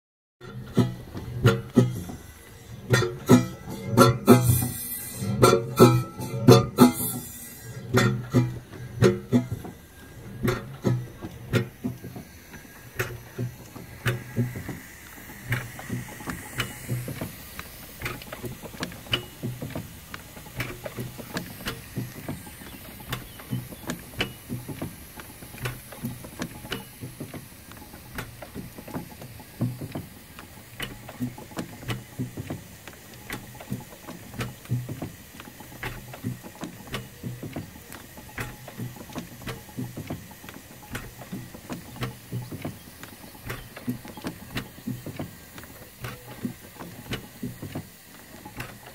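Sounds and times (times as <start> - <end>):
steam engine ticking over: 0.4 - 48.9.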